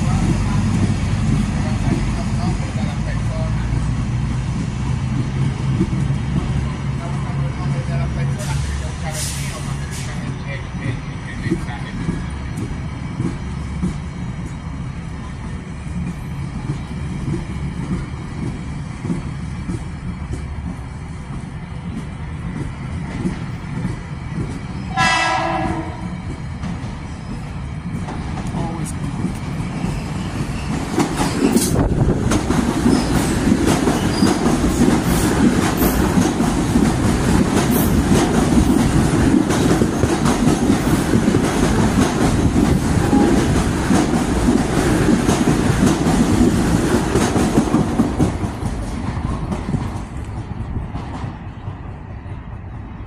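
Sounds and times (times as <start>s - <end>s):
train passing rumble: 0.0s - 53.0s.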